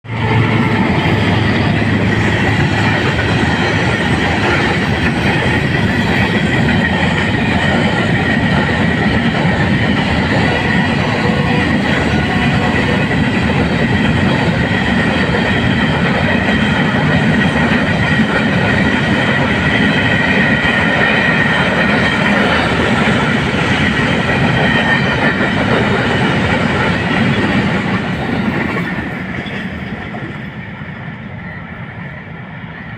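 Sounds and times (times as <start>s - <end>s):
train wagons rolling on rails: 0.1s - 32.9s.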